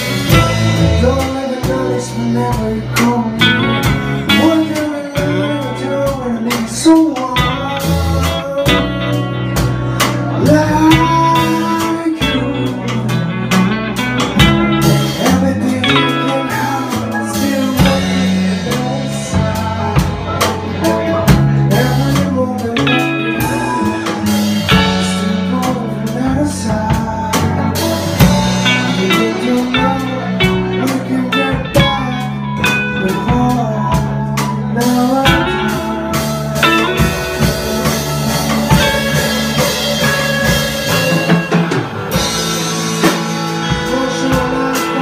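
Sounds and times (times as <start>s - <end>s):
bass guitar: 0.0s - 45.0s
drum kit: 0.0s - 45.0s
electric guitar: 0.0s - 45.0s
man singing: 0.0s - 45.0s.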